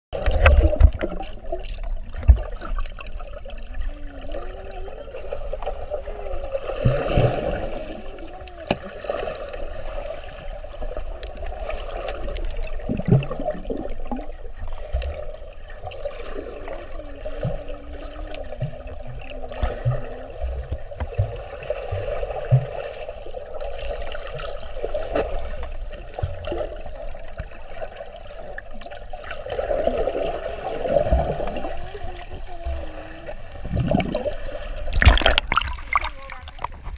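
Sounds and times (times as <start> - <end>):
water bubbling underwater: 0.1 - 36.9.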